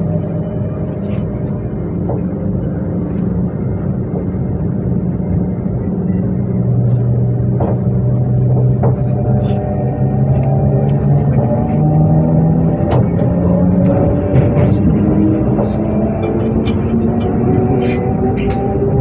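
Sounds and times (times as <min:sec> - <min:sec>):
electric train motor humming: 0:00.0 - 0:19.0.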